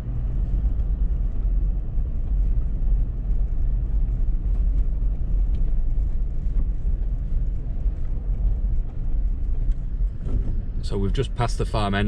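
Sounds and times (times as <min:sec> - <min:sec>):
vehicle rumbling on unpaved road: 0:00.0 - 0:12.0.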